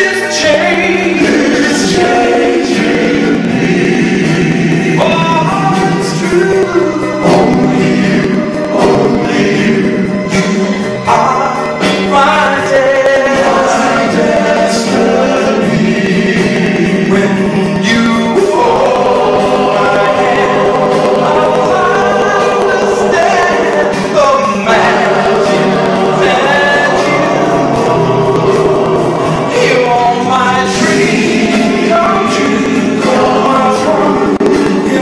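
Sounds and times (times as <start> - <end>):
vocal ensemble singing: 0.0 - 35.0
man singing lead: 5.0 - 28.7, 29.4 - 35.0.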